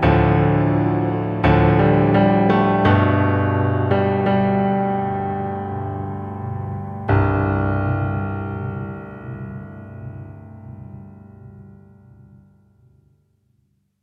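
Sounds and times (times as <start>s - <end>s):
piano chords: 0.0s - 12.4s.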